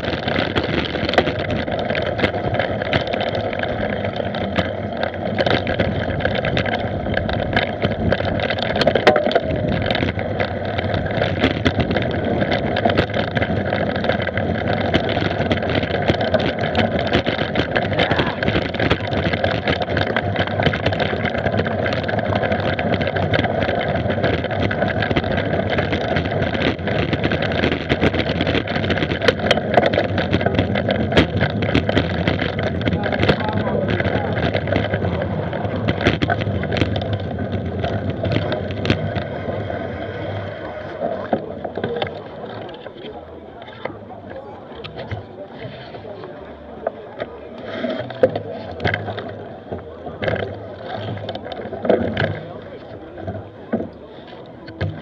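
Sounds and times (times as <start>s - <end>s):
bike tyres rumbling on gravel: 0.0s - 55.0s
small clicks and knocks: 0.0s - 55.0s.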